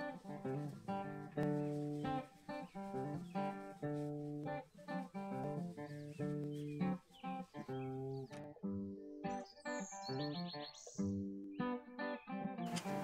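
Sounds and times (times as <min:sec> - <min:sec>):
guitar music: 0:00.0 - 0:13.0.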